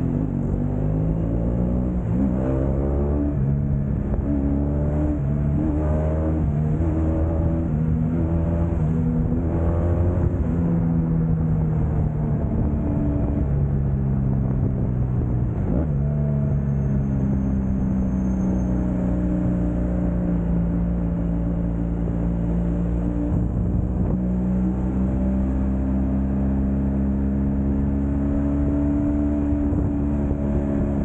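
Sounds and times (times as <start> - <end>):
motorcycle engine at speed: 0.0 - 31.0
road and wind rumble: 0.0 - 31.0.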